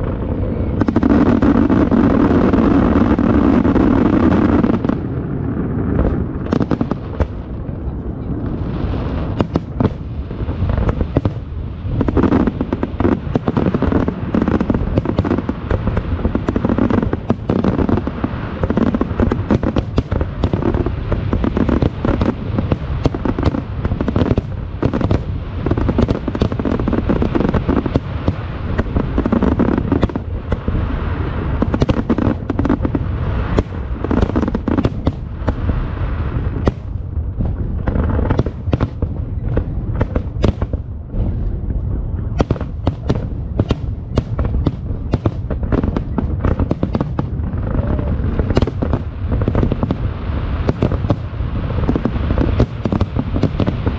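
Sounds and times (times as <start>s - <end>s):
firework shells bursting and crackling: 0.0s - 53.9s
low booming rumble: 0.0s - 53.9s.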